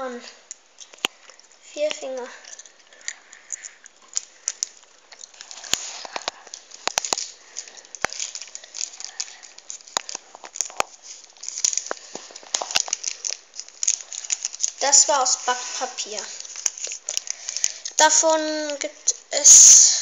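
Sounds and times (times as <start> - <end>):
paper crinkling and crackling: 0.0 - 19.3.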